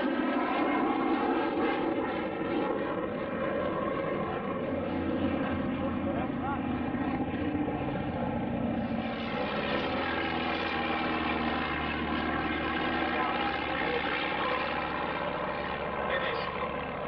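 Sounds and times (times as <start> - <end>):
propeller aircraft engine droning: 0.0 - 17.0.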